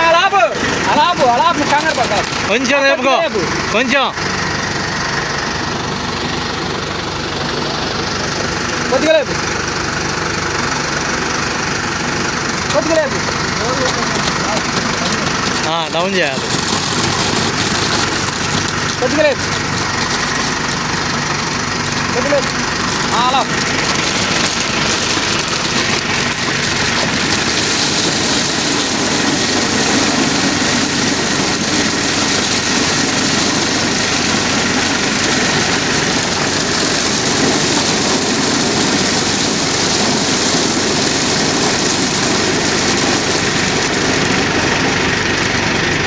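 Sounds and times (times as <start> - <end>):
harvester running: 0.0 - 46.0.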